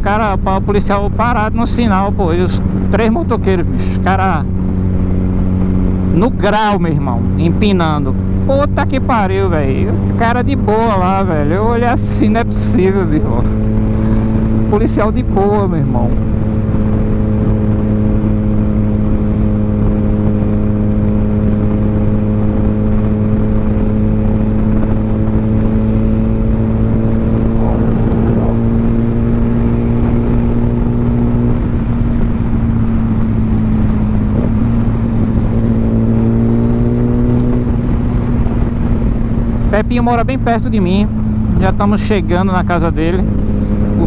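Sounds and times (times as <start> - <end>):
motorcycle engine cruising: 0.0 - 44.0
wind and road noise: 0.0 - 44.0.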